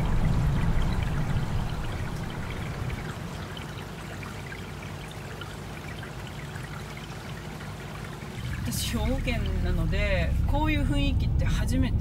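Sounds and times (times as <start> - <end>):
stream water trickling: 0.0 - 11.1.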